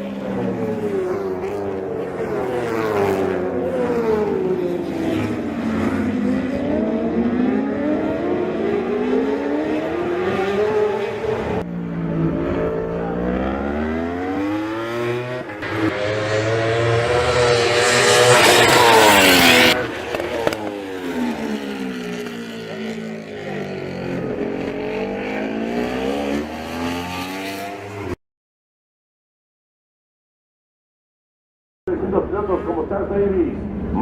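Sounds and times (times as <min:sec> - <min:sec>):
racing motorcycles passing: 0:00.0 - 0:28.2, 0:31.9 - 0:34.0.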